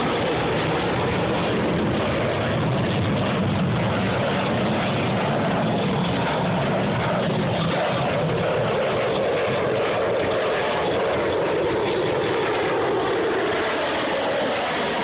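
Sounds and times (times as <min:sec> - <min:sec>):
loud jet engine noise: 0:00.0 - 0:15.0.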